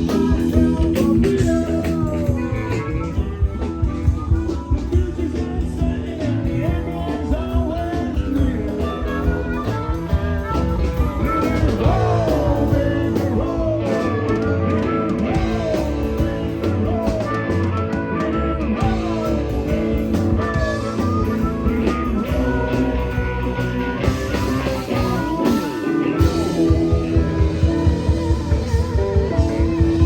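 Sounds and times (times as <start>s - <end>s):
electric guitar lead bending: 0.0s - 30.0s
live rock band playing: 0.0s - 30.0s.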